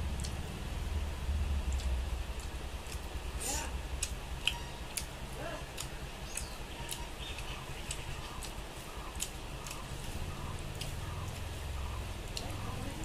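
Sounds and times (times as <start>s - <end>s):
low steady hum: 0.0s - 13.0s
chewing: 0.1s - 0.5s, 1.7s - 13.0s.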